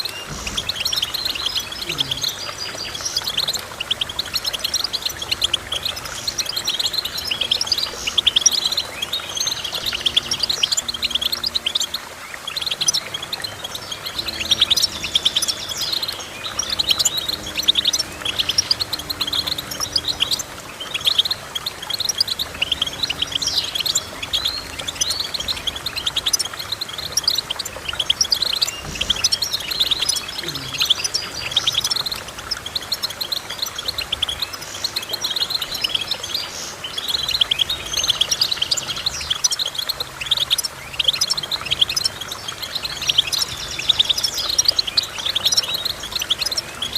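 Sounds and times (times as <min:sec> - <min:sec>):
finch singing: 0:00.0 - 0:46.9.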